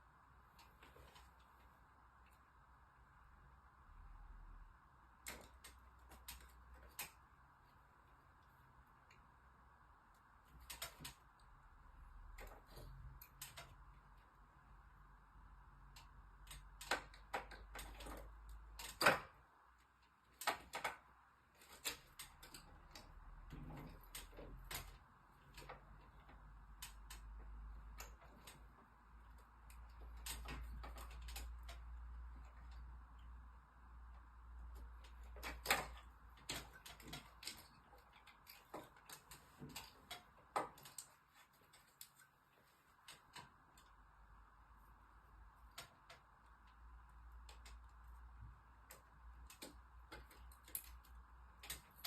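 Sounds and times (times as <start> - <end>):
faint steady hum: 0.0 - 52.0
clicks and knocks of plastic parts: 5.1 - 9.3, 10.2 - 14.4, 15.6 - 52.0.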